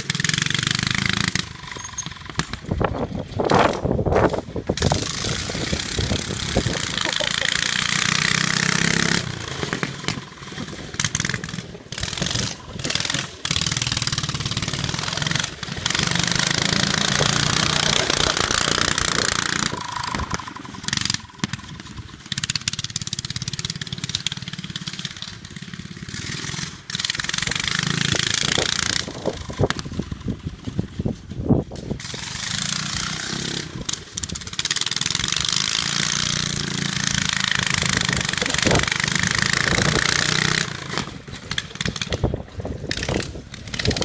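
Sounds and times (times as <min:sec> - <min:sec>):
open-pipe engine revving: 0:00.0 - 0:30.4, 0:32.0 - 0:44.0.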